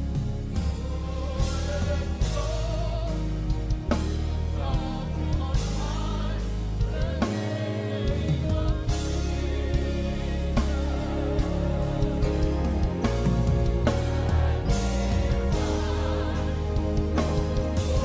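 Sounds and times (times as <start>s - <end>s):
gospel band playing: 0.0s - 18.0s.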